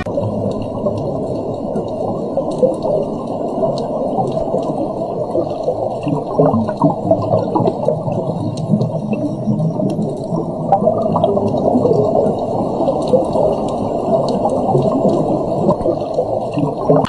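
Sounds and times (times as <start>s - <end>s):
water gurgling and rushing: 0.0s - 17.0s.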